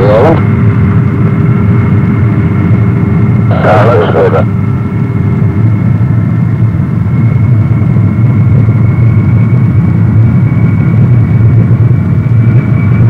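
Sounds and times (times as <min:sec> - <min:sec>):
high engine whine: 0:00.0 - 0:13.0
jet engines rumbling: 0:00.0 - 0:13.0.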